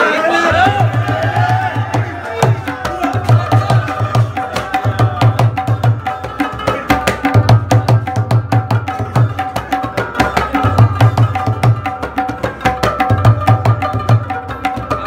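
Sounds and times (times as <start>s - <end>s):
tabla treble drum strokes: 0.5s - 15.0s
tabla bass drum strokes: 0.6s - 15.0s.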